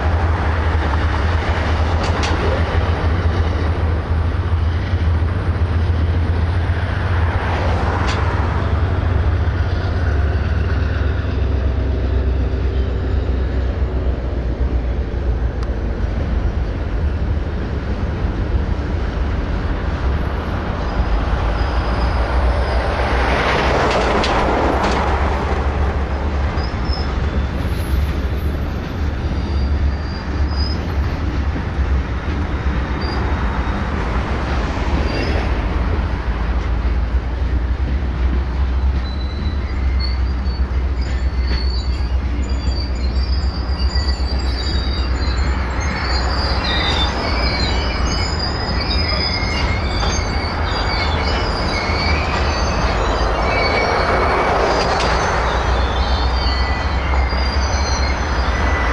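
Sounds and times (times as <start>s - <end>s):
freight cars rumbling: 0.0s - 58.9s
train wheels squealing: 0.0s - 58.9s.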